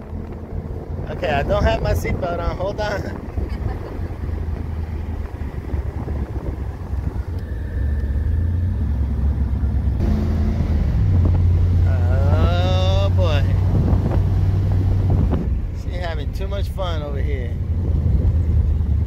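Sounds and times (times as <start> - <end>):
car engine hum from cabin: 0.0 - 19.0
road noise: 0.0 - 19.0.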